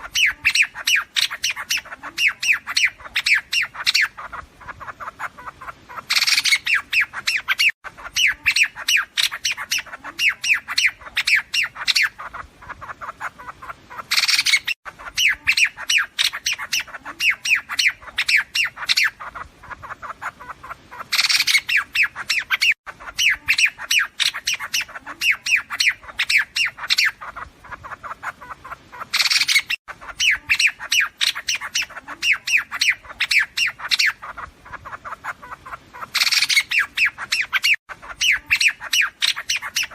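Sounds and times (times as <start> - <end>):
bird harsh chattering call: 0.0 - 39.9.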